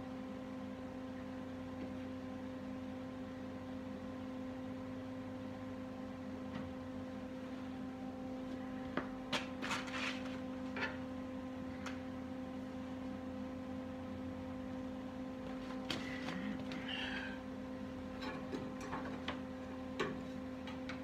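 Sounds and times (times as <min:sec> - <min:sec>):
shop hum: 0:00.0 - 0:21.0.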